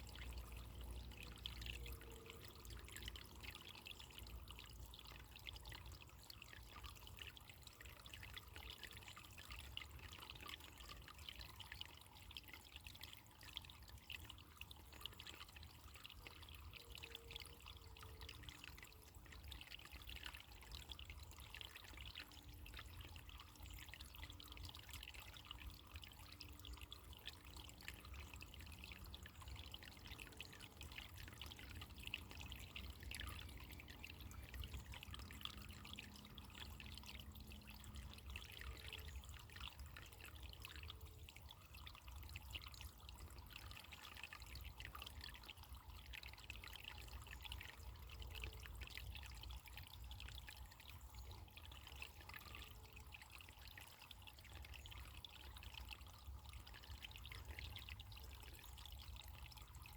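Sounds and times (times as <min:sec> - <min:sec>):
trickle of running water: 0:00.0 - 0:59.9.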